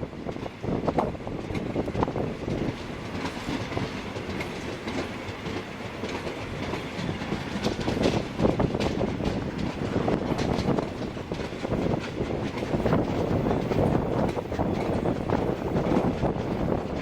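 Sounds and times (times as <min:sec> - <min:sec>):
train wheels clacking on rail joints: 0:00.1 - 0:17.0.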